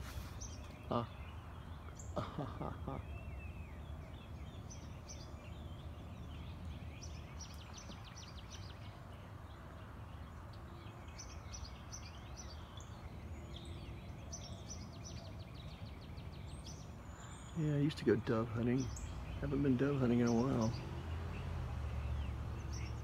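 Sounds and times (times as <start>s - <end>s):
low outdoor rumble: 0.0s - 23.0s
songbirds chirping: 0.0s - 23.0s.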